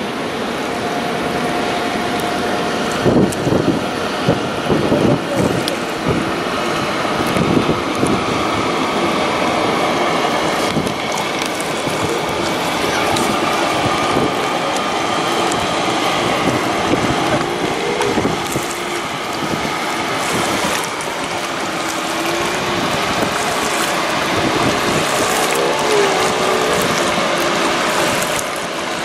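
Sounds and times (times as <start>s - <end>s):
low engine hum: 0.0s - 29.0s
water rushing along hull: 0.0s - 29.0s.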